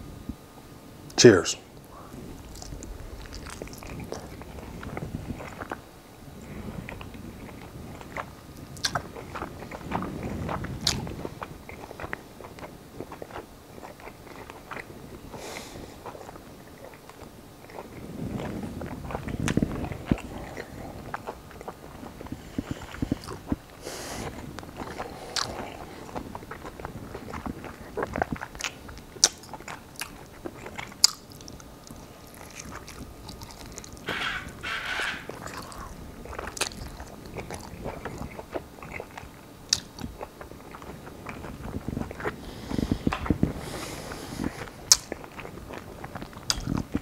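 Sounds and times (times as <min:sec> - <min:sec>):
food crunching: 0:01.7 - 0:47.0
person chewing with lip smacking: 0:02.0 - 0:05.8, 0:06.4 - 0:47.0.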